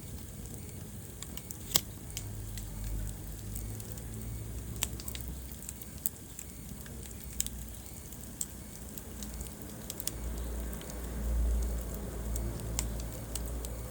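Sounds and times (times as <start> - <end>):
wood fire crackling: 0.0 - 13.9.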